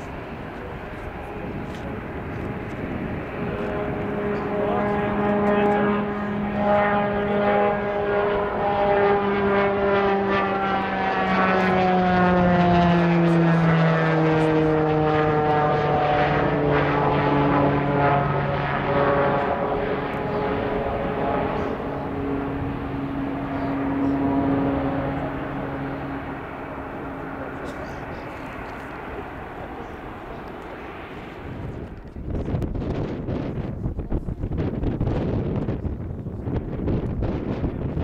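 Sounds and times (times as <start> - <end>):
turboprop aircraft droning overhead: 0.0 - 38.0.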